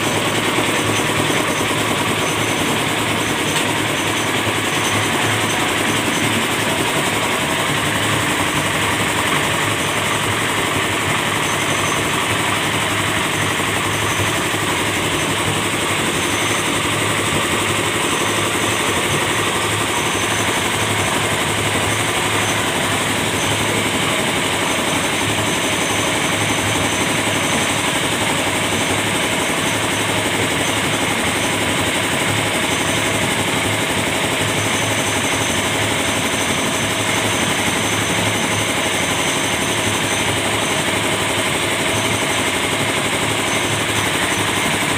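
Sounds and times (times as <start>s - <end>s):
small engine chugging: 0.0s - 44.9s.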